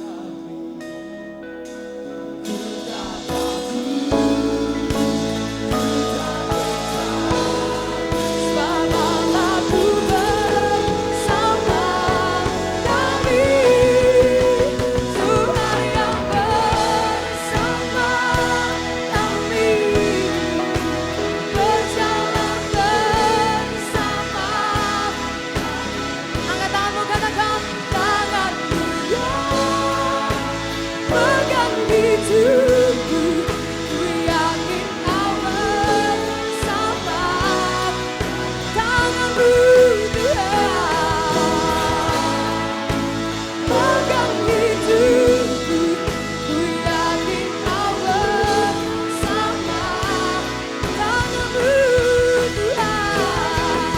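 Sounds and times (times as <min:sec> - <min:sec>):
live band playing worship song: 0:00.0 - 0:53.9
steady drum beat: 0:02.5 - 0:53.9.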